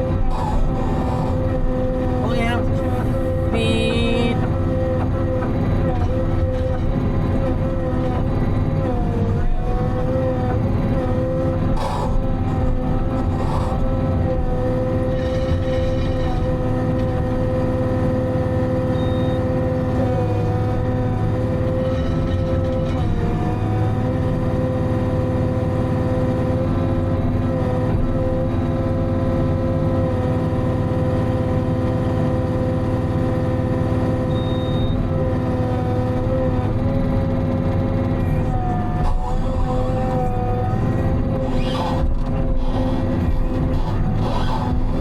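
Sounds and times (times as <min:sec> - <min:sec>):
diesel engine and hydraulics running: 0:00.0 - 0:45.0.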